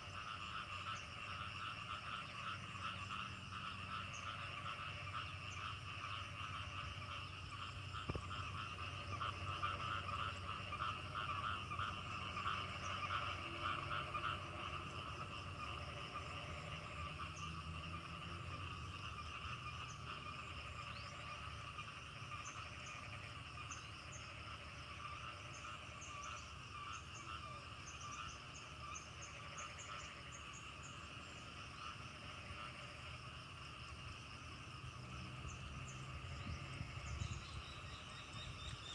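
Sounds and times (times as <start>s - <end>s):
frogs calling in chorus: 0.0s - 38.9s.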